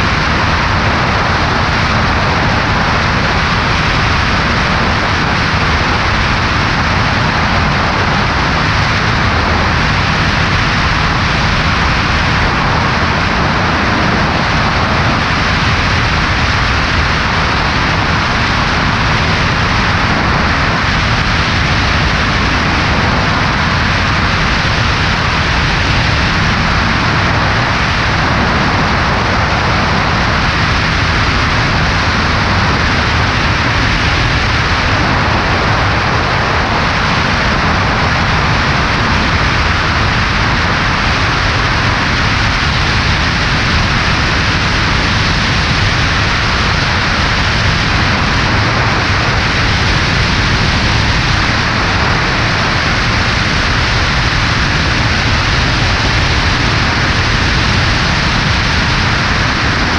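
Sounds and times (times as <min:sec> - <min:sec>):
loud rush of wind: 0:00.0 - 0:59.9
plane engine and propeller: 0:00.0 - 0:59.9.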